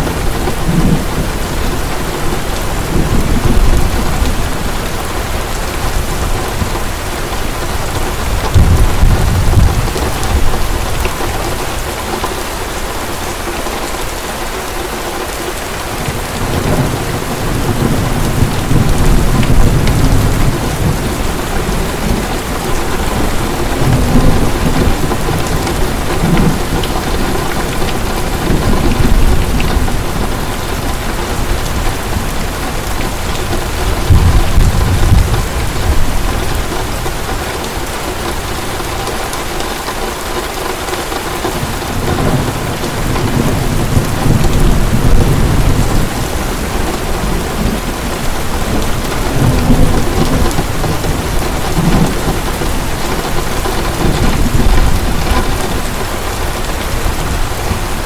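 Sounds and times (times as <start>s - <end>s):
distant thunder rolling: 0.0s - 11.9s, 16.0s - 37.8s, 41.6s - 58.0s
heavy rain pouring: 0.0s - 58.0s.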